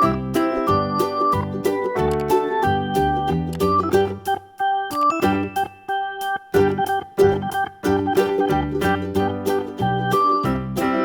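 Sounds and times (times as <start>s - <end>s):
light cheerful background music: 0.0s - 11.0s.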